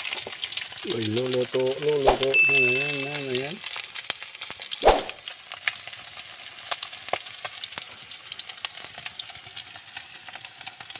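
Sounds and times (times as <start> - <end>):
chicken sizzling in a wok: 0.0 - 10.9.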